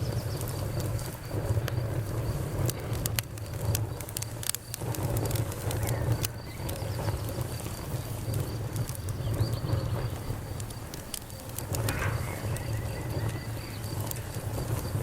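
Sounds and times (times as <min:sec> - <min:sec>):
burning wood crackling: 0:00.0 - 0:15.0
crickets chirping: 0:00.0 - 0:15.0.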